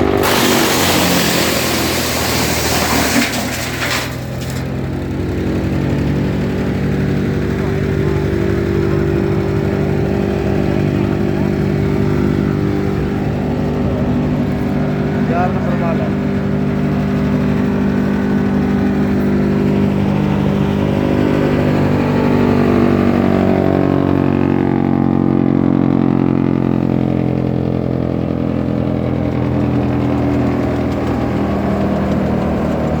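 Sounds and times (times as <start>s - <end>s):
wood chipper running: 0.0s - 33.0s.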